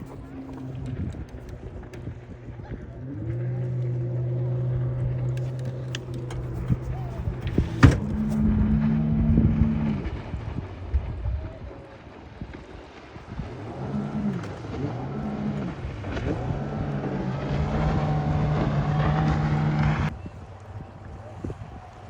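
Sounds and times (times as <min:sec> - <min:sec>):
wind noise on microphone: 0:00.0 - 0:03.2, 0:04.0 - 0:22.0
outboard motor running: 0:00.0 - 0:22.0.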